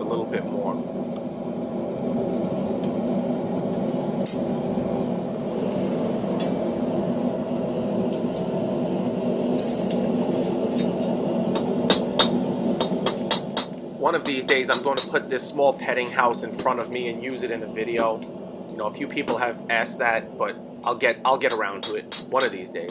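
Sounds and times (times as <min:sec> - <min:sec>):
steady background roar: 0:00.0 - 0:22.9.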